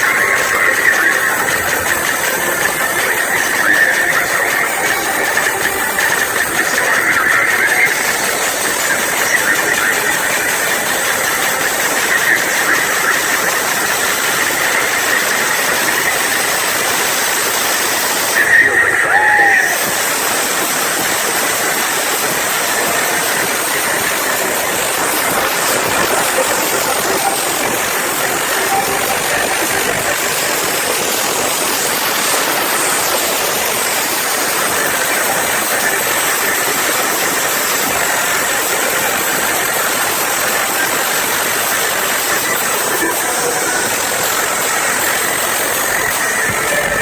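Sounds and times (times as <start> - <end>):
large crowd cheering: 0.0 - 47.0.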